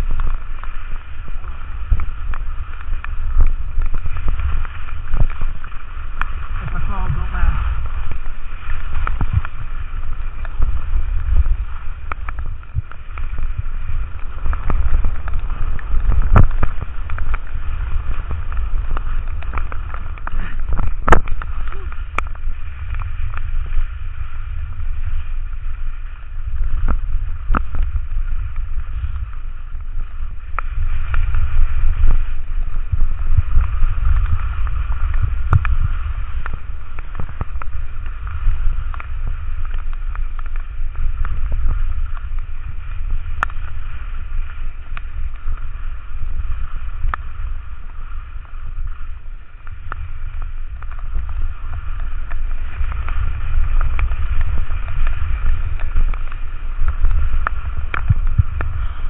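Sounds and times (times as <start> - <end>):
steady hiss: 0.0 - 59.0
wind buffeting microphone: 0.0 - 59.0.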